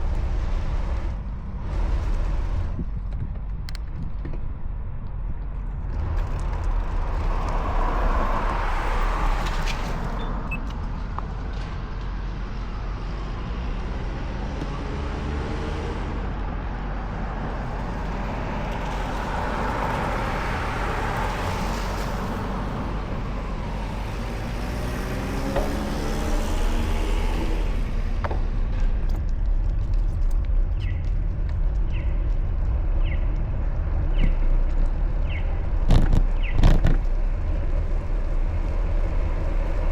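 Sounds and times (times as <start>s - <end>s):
cars passing: 0.0s - 3.2s, 5.3s - 39.9s
low traffic rumble: 0.0s - 39.9s.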